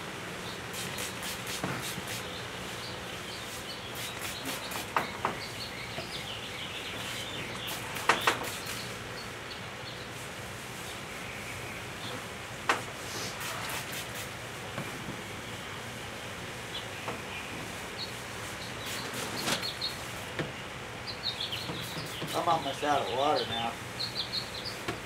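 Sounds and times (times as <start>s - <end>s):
birds chirping: 0.3s - 12.4s, 13.3s - 25.0s.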